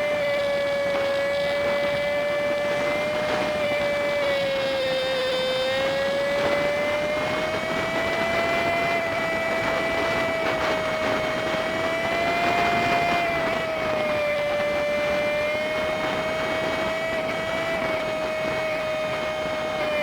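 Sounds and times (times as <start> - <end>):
sped-up engine whine: 0.0 - 20.0.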